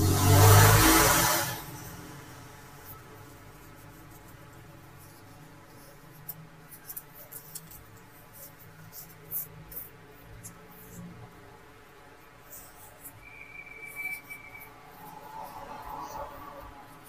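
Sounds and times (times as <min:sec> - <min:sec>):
dry scratching brush strokes: 0:00.0 - 0:17.0.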